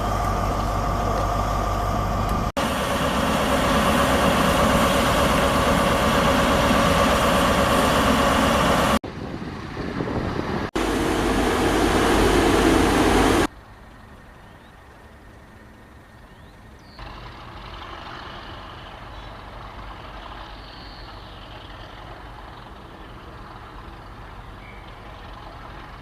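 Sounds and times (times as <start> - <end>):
heavy vehicle engines running: 0.0 - 26.0.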